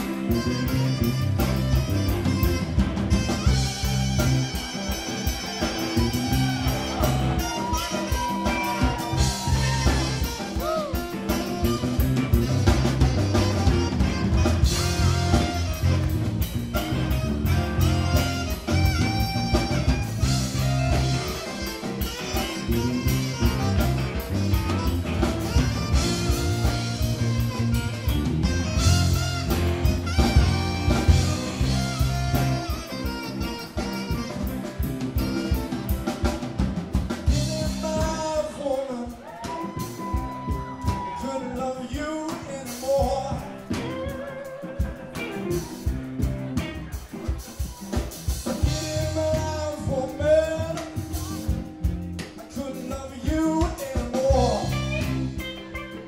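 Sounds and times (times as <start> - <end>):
drum kit: 0.0 - 56.0
electric guitars: 0.0 - 56.0
saxophone: 0.0 - 56.0.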